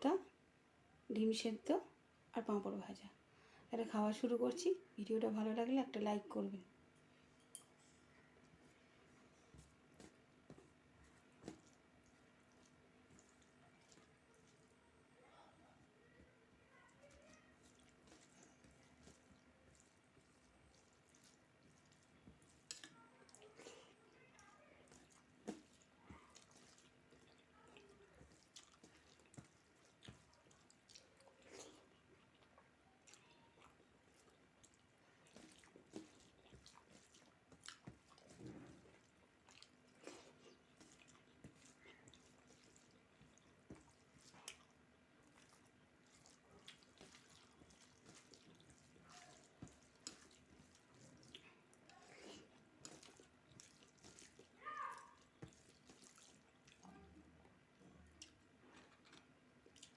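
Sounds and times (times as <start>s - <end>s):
person chewing food: 7.6s - 14.8s, 16.8s - 59.9s.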